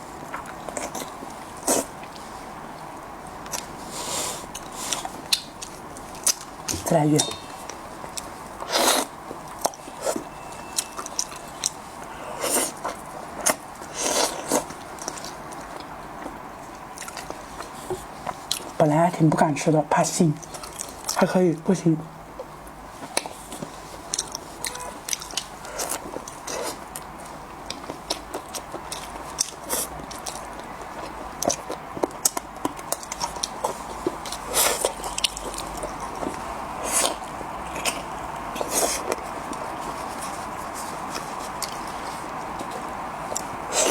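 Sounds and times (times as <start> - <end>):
person chewing food: 0.0 - 18.8, 20.4 - 21.2, 22.4 - 43.9.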